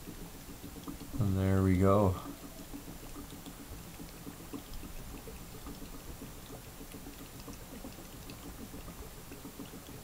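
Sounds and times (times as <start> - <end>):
small pops and ticks: 0.0 - 10.0
water bubbling and fizzing: 0.0 - 10.0.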